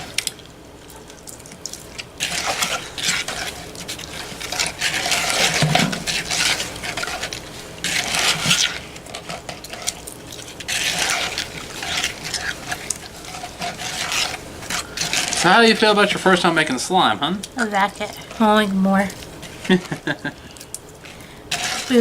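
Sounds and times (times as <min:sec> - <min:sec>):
slime squelching in a bowl: 0:00.0 - 0:22.0.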